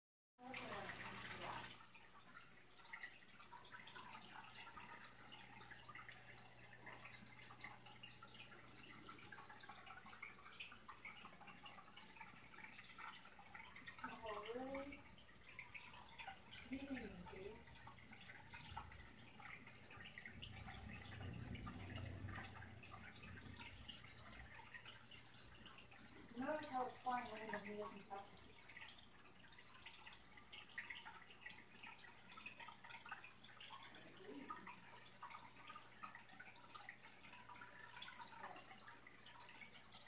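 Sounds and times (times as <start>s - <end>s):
water dripping and trickling: 0.4s - 40.0s.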